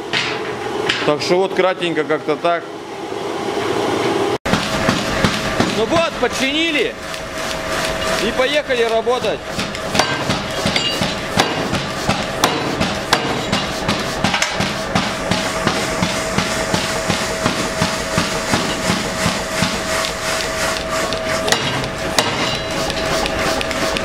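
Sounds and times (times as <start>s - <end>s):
steady hum: 0.0s - 24.0s
power hammer blows on metal: 4.5s - 24.0s.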